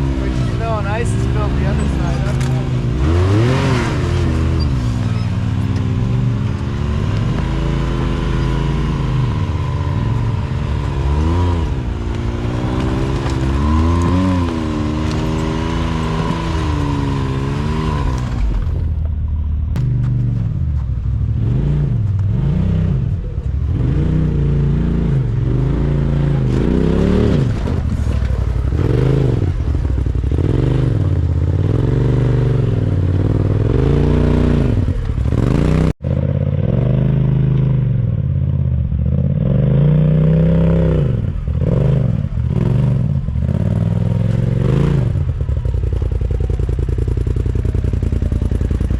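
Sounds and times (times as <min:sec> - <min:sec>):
engine revving: 0:00.0 - 0:19.1, 0:21.2 - 0:48.9.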